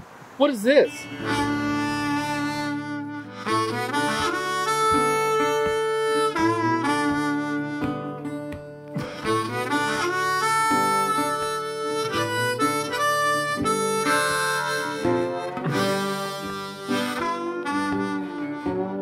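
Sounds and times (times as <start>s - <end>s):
guitar accompaniment: 0.8s - 19.0s
melody of long held notes: 0.8s - 19.0s.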